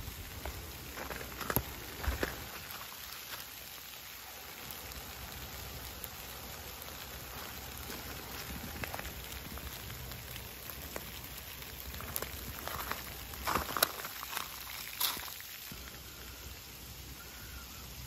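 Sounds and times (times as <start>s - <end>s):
hail pattering on tent fabric: 0.0s - 17.3s.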